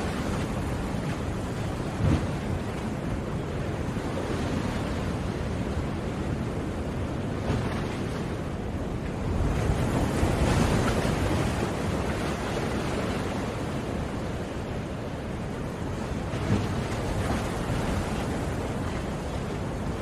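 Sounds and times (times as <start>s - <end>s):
ocean waves breaking on shore: 0.0s - 20.0s.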